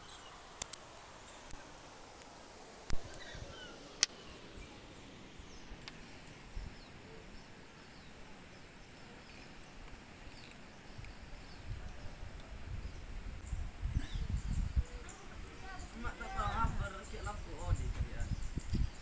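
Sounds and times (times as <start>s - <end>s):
faint bird chirps: 3.0s - 5.8s, 6.5s - 19.0s.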